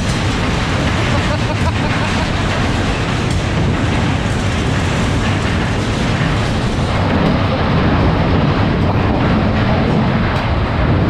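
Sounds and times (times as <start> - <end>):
ride cars rumbling on track: 0.0 - 11.0
wind buffeting microphone: 0.0 - 11.0.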